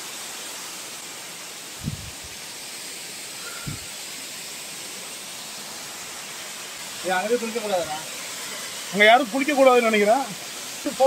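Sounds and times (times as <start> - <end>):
waterfall rushing hiss: 0.0 - 11.0.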